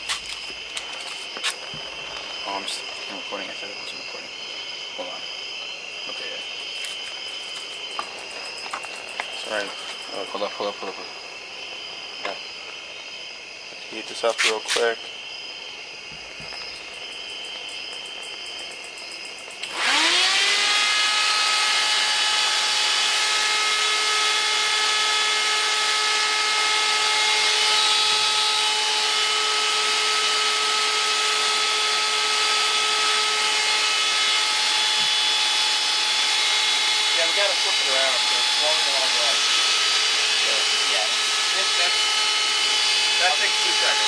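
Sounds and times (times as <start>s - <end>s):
radiator fan motor whine: 0.0s - 44.0s.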